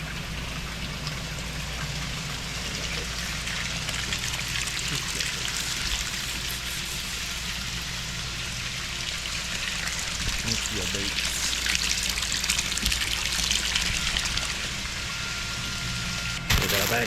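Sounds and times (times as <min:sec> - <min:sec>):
low steady hum: 0:00.0 - 0:17.0
water running: 0:00.0 - 0:17.0.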